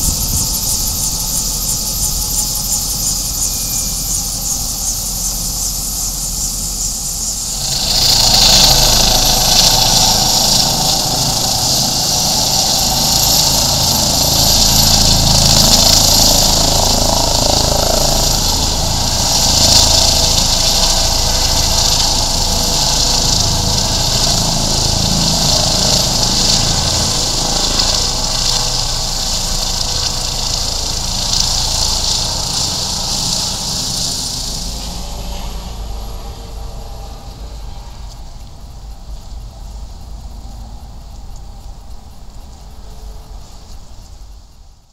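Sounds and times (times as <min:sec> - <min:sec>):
helicopter turbine whine and rotor beat: 0:00.0 - 0:44.9.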